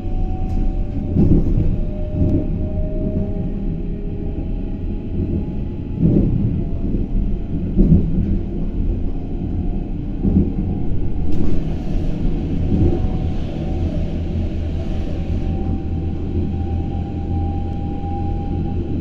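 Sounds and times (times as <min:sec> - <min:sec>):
electric train rumbling on track: 0:00.0 - 0:19.0.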